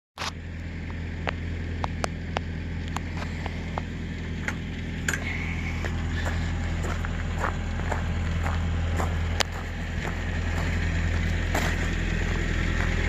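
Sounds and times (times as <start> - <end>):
vehicle engine humming: 0.2 - 13.0.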